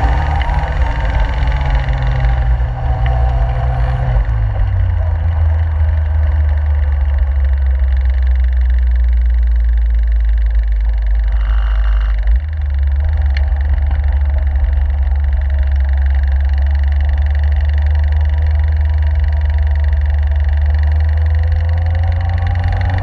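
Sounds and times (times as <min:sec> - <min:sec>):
car engine running: 0:00.0 - 0:23.0
road noise: 0:00.0 - 0:23.0.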